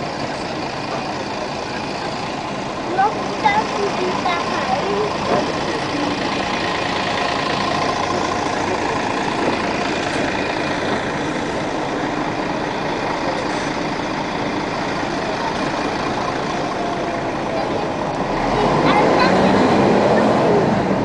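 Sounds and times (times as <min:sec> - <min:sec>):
city bus engine running: 0:00.0 - 0:21.0
tram noise: 0:00.0 - 0:21.0.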